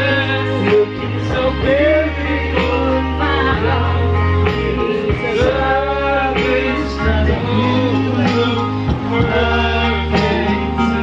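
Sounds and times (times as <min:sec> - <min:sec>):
amplified backing track: 0:00.0 - 0:11.0
people singing karaoke: 0:00.0 - 0:11.0.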